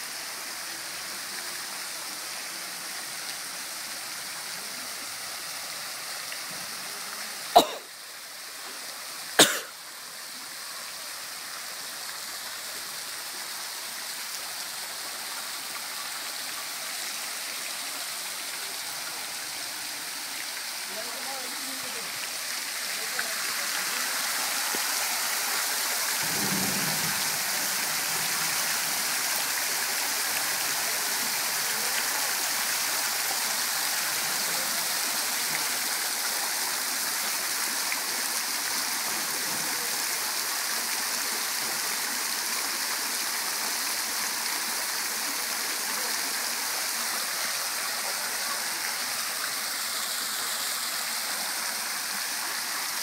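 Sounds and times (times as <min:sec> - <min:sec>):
fountain water splashing: 0:00.0 - 0:53.0.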